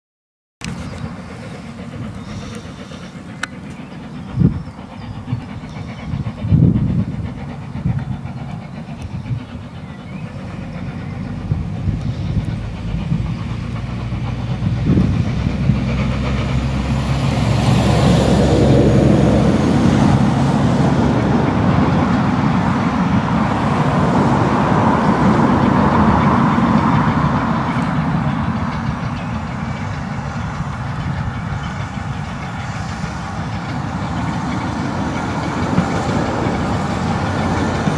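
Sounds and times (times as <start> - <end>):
steam locomotive exhaust and hiss: 0.6 - 37.9
train clattering on rails: 0.6 - 37.9.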